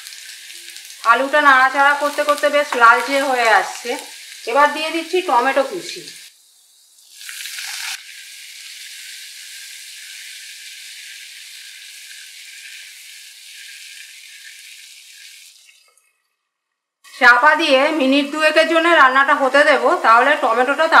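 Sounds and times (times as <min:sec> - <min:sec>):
food sizzling in hot oil: 0:00.0 - 0:15.9, 0:17.0 - 0:21.0.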